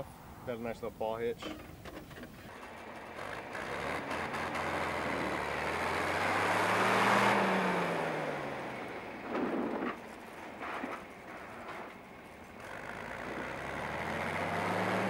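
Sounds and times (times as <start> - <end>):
tractor engine driving past: 1.4 - 15.0.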